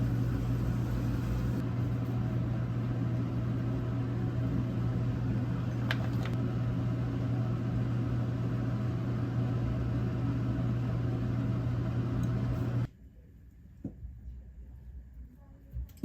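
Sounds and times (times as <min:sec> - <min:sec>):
kitchen appliance humming: 0:00.0 - 0:12.9.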